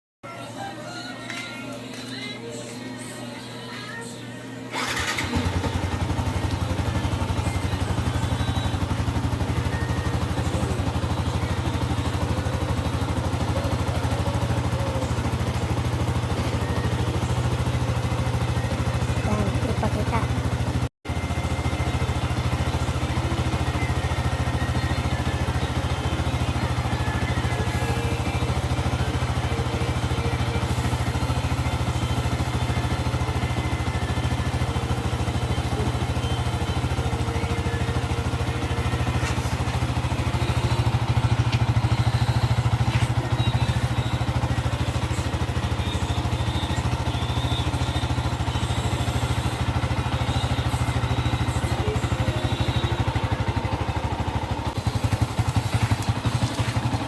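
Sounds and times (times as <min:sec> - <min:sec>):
motorcycle engine idling: 0:04.7 - 0:57.0.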